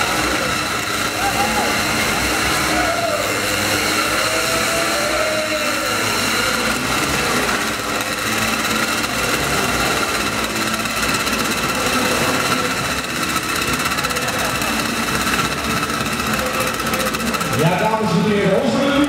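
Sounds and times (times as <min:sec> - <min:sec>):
motorcycle engine buzzing: 0:00.0 - 0:19.0.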